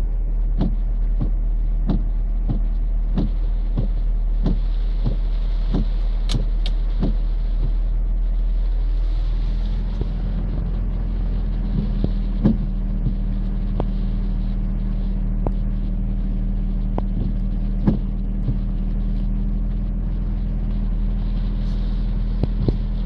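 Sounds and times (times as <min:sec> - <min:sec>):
heavy rain and floodwater rushing: 0:00.0 - 0:19.8
car engine hum: 0:00.0 - 0:23.0
raindrops tapping on car: 0:00.0 - 0:23.0.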